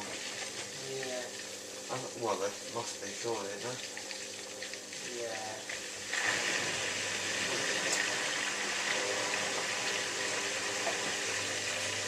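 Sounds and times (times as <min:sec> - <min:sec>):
water rushing through washing machine: 0:00.0 - 0:12.0.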